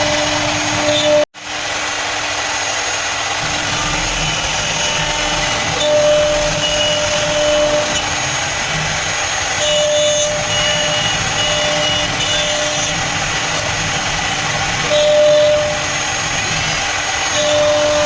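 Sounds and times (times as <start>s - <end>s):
router spindle cutting: 0.0s - 18.0s.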